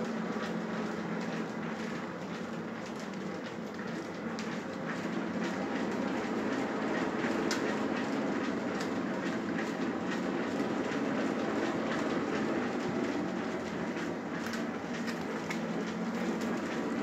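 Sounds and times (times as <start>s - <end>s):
mill gear wheel rumbling: 0.0s - 17.0s.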